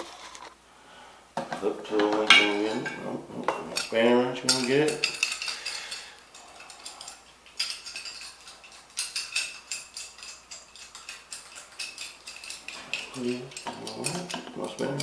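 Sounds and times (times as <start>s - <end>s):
metal wrench clinking on nut: 2.3s - 15.0s.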